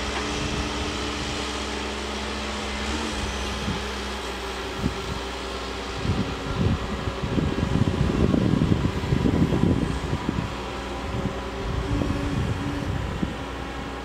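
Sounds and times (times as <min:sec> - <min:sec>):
distant machine droning: 0:00.0 - 0:14.0
low rumbling: 0:00.0 - 0:14.0.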